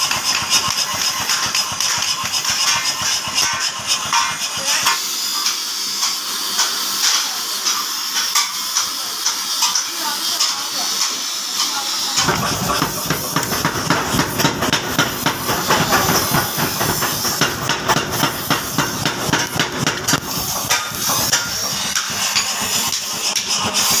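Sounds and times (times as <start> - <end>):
sharp knocks and clatter: 0.0 - 9.8, 12.2 - 24.0
forge fire hissing: 0.0 - 24.0.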